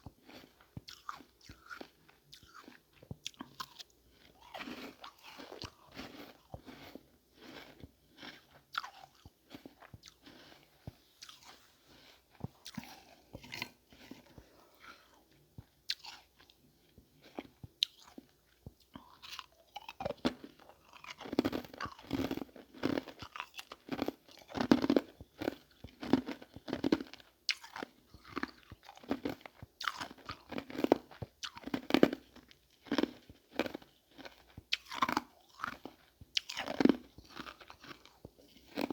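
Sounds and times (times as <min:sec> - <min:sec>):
ice being crunched and chewed: 0:00.0 - 0:38.9.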